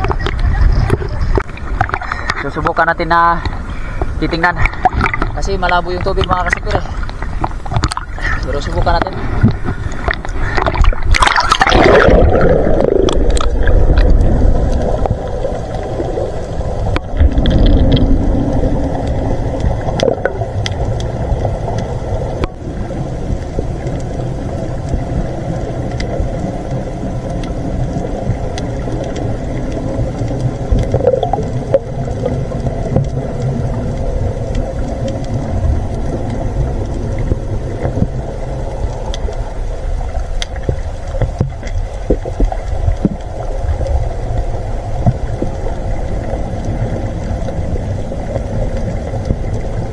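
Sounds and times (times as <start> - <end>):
muffled underwater rumble: 0.0 - 49.9
sea water splashing: 0.0 - 49.9.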